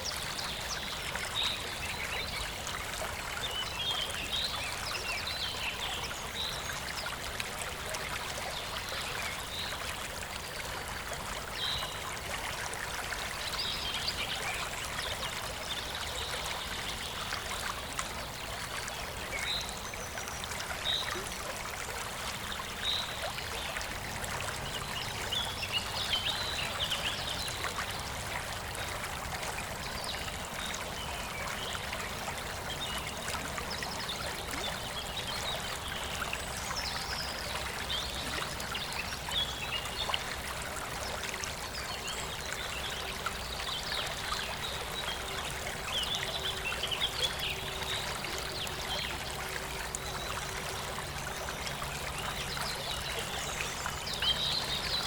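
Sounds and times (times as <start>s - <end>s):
stream trickling over stones: 0.0s - 55.0s.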